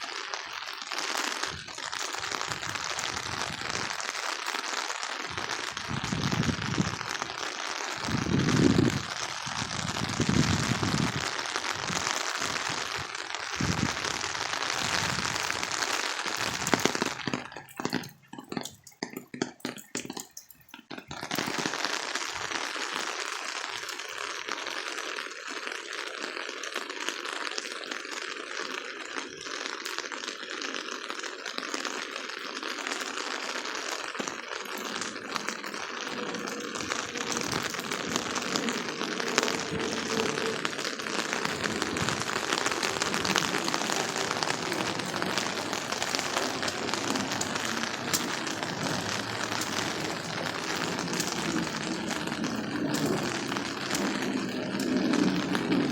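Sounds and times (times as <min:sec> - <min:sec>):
heavy rain pouring: 0:00.0 - 0:25.6, 0:31.3 - 0:55.9.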